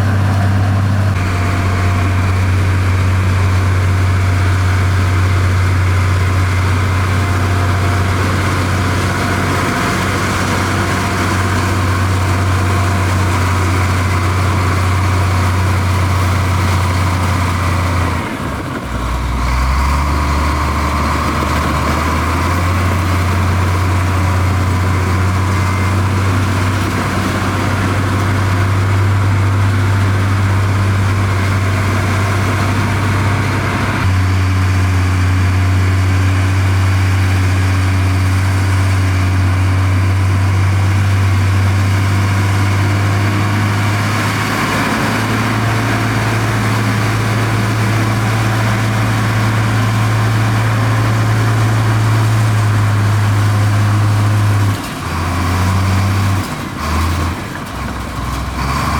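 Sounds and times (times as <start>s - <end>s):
heavy diesel engine humming: 0.0s - 58.9s.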